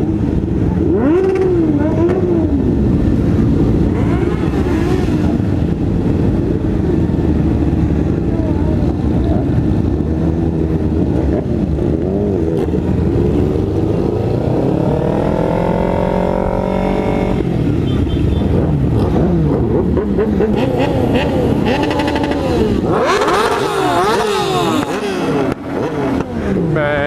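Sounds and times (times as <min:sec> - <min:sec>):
motorbike engines revving: 0:00.0 - 0:27.0
wind and road noise rumble: 0:00.0 - 0:27.0.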